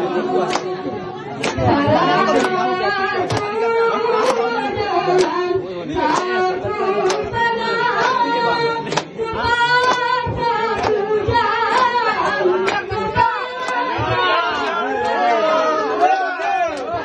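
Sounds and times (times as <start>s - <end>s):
women singing a chant: 0.0s - 17.0s
hand claps: 0.4s - 0.8s, 1.4s - 3.6s, 4.2s - 15.3s, 16.0s - 17.0s.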